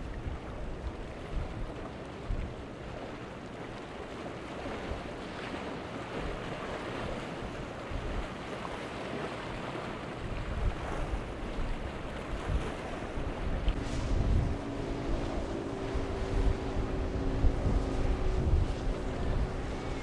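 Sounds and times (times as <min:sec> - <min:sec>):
wind buffeting microphone: 0:00.0 - 0:03.1, 0:06.1 - 0:08.6, 0:09.3 - 0:20.0
choppy sea water: 0:00.0 - 0:20.0.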